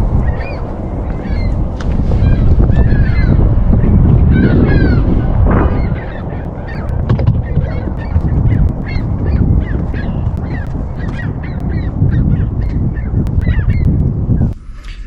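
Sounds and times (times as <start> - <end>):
wind rumble on microphone: 0.0 - 15.0
geese honking: 0.2 - 14.0.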